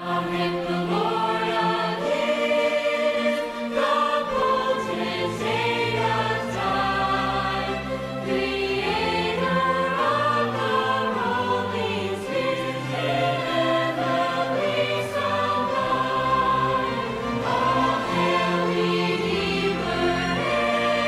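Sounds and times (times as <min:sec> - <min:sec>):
choir singing long held notes: 0:00.0 - 0:21.0.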